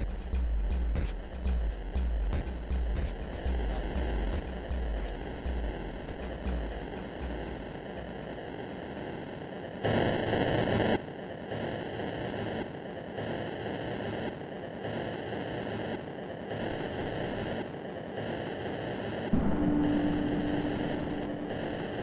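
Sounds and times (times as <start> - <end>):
electronic static noise: 0.0 - 22.0.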